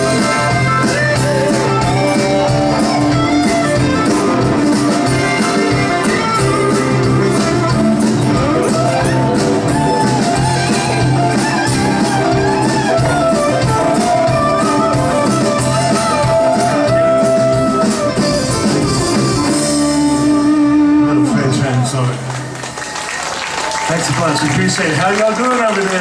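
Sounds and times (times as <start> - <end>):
sliding lead guitar notes: 0.0 - 22.4
live country-rock band: 0.0 - 26.0.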